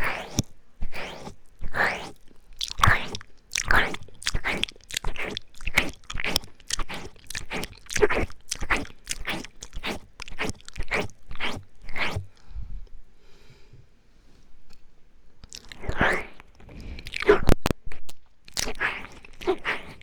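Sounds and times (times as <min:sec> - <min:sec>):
wet mouth licking and smacking: 0:00.0 - 0:12.3, 0:15.4 - 0:20.0.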